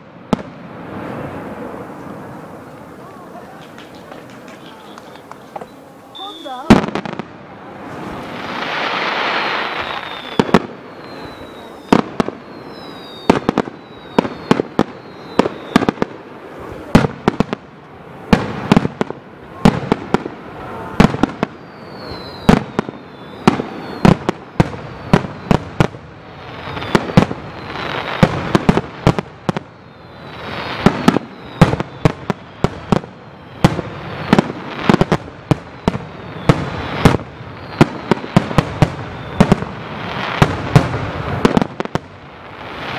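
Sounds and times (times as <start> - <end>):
fireworks falling whistles: 0.0 - 7.2, 7.8 - 17.6, 18.3 - 42.9
fireworks bangs: 0.0 - 42.9.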